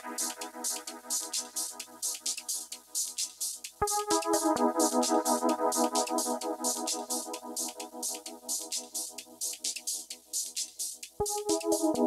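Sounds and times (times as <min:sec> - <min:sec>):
electronic music with fast beat: 0:00.0 - 0:12.0.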